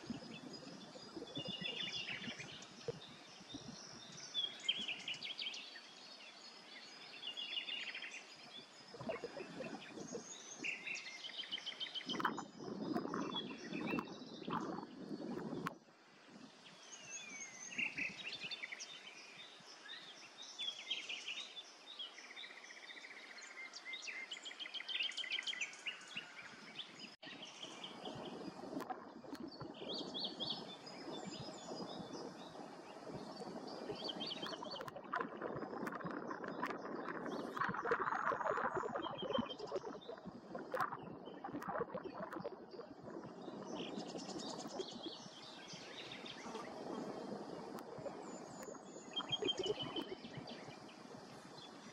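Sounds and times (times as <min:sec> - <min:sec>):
small birds chirping and singing: 0:00.0 - 0:15.7, 0:16.4 - 0:51.9
outdoor background noise: 0:00.0 - 0:51.9.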